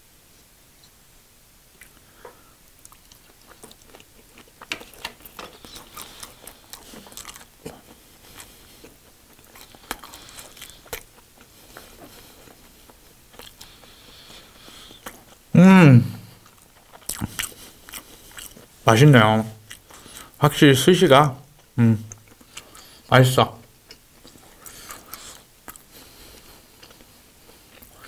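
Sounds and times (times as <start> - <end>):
person chewing food: 1.8 - 15.5, 16.1 - 18.8, 19.6 - 20.4, 21.5 - 28.0.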